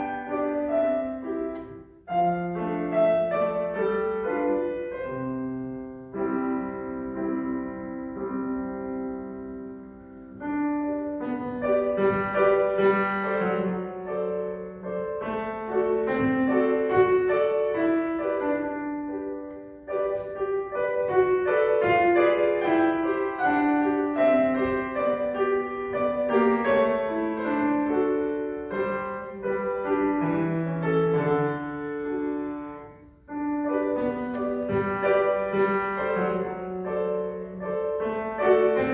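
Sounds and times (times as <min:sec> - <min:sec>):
classical piano piece: 0:00.0 - 0:38.9.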